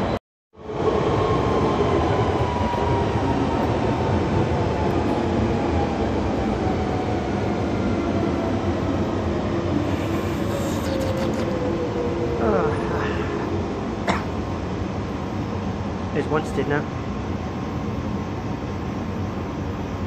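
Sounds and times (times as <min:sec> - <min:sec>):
train rumble and rail noise: 0:00.0 - 0:20.0.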